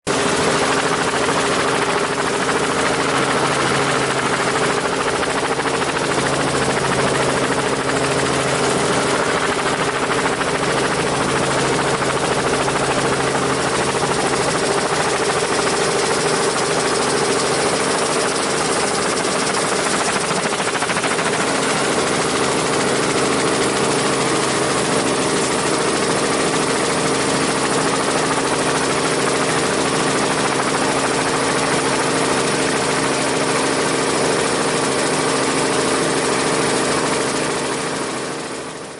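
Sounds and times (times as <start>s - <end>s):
helicopter engine and rotor: 0.1s - 38.9s.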